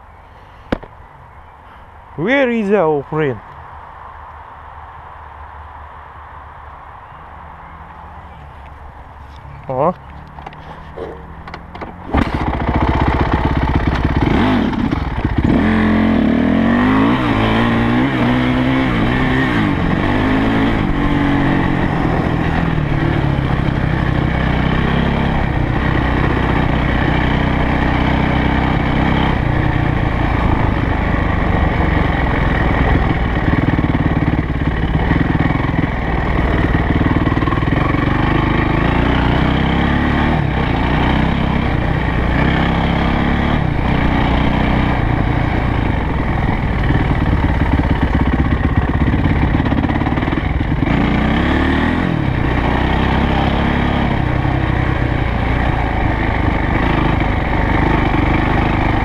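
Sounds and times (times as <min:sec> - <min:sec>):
dirt bike engine revving: 0:10.6 - 0:59.0.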